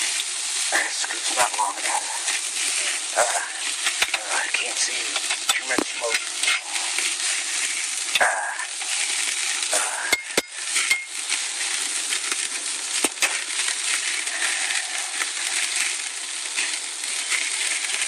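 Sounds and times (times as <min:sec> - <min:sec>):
patties sizzling on a grill: 0:00.0 - 0:18.0.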